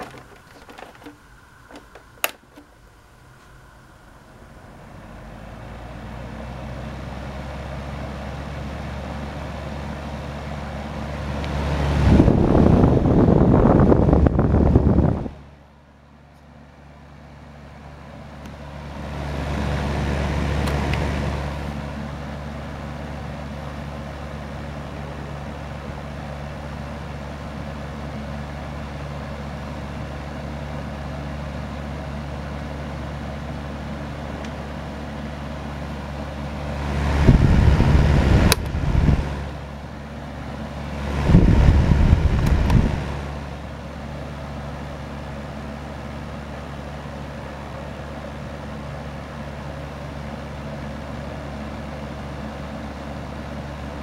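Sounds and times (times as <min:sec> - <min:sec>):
space heater fan humming: 0:00.0 - 0:54.0.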